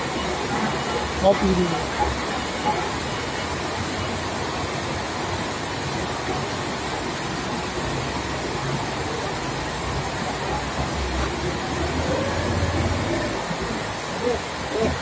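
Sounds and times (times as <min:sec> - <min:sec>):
constant noisy rush: 0:00.0 - 0:15.0.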